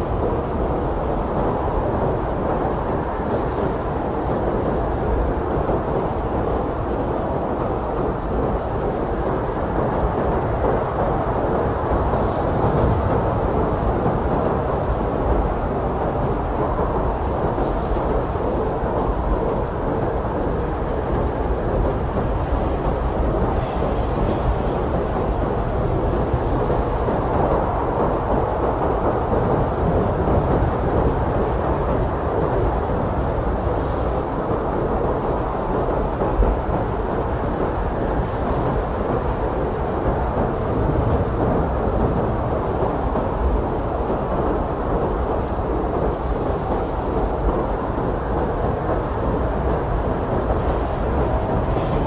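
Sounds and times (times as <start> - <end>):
blizzard wind rushing: 0.0 - 52.0.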